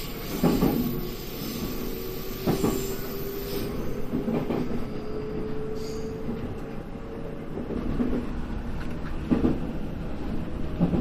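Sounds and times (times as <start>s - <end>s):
electric train rumble with rising tone: 0.0s - 11.0s.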